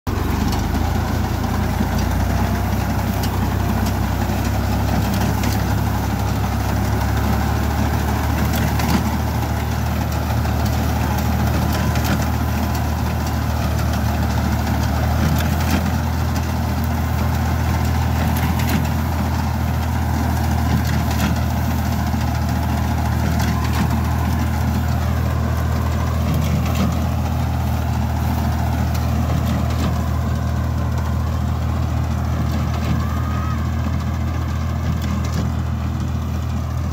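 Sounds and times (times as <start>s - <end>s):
faint machinery clatter: 0.1s - 36.9s
tractor engine running: 0.1s - 36.9s.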